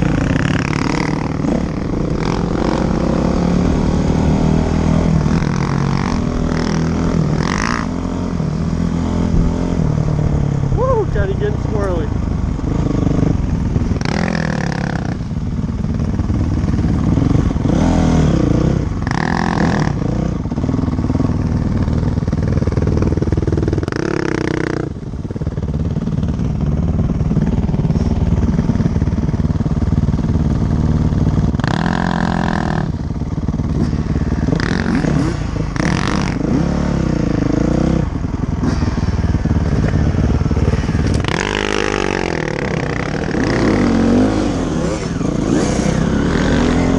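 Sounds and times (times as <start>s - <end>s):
dirt bike engine revving: 0.0s - 10.4s, 11.2s - 25.0s, 25.6s - 46.9s.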